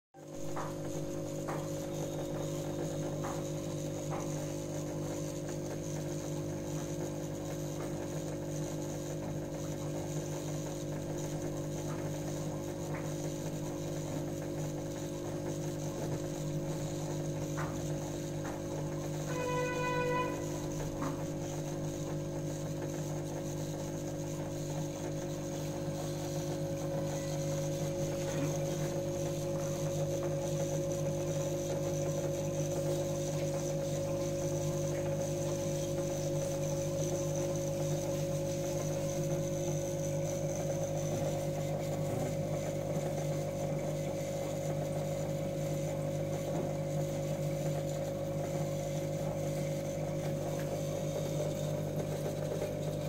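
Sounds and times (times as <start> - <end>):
aquarium air pump humming: 0.2 - 53.0.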